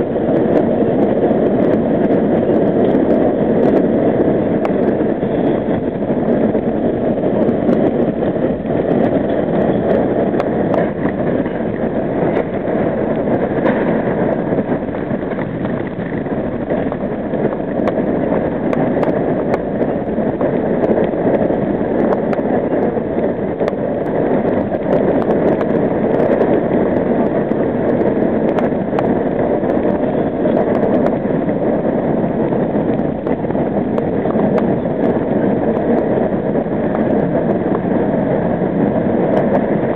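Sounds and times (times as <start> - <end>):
subway train wheels rumbling on rail: 0.0 - 39.9.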